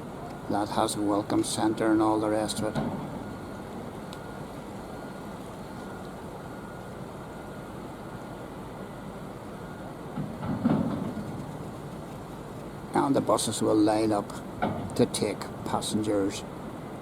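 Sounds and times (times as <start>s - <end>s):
rumble and hiss of background: 0.0s - 17.0s.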